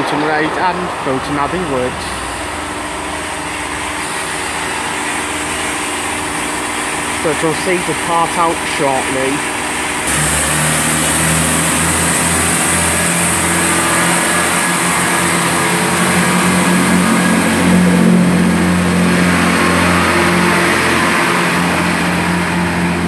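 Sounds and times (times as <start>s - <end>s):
train diesel engines pulling away: 0.0s - 23.0s.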